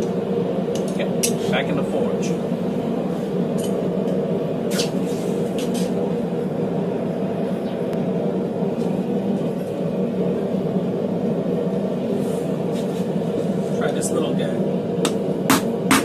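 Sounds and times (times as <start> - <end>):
forge droning: 0.0 - 16.0.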